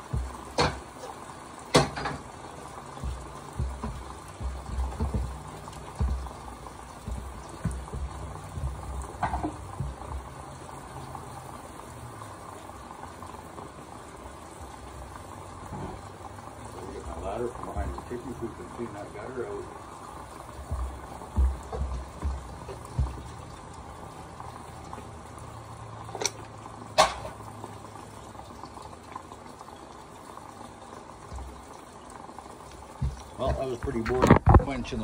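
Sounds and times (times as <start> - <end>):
water bubbling and popping: 0.0 - 35.0.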